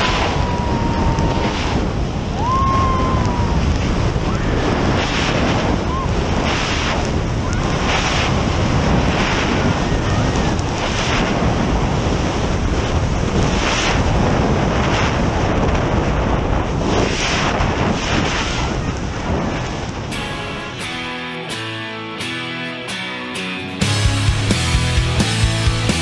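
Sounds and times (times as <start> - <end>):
wind roaring over microphone: 0.0 - 21.6.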